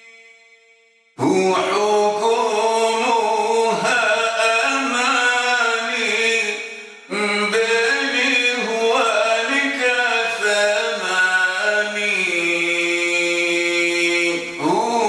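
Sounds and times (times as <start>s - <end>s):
man chanting melodically: 1.2s - 15.0s.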